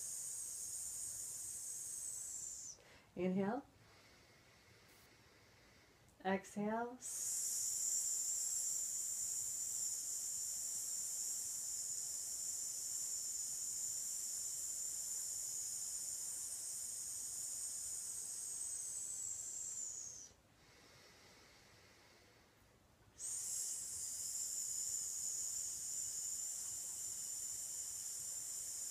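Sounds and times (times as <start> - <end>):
woman exhaling hissing sss: 0.0 - 3.1, 7.0 - 22.3, 23.2 - 28.9.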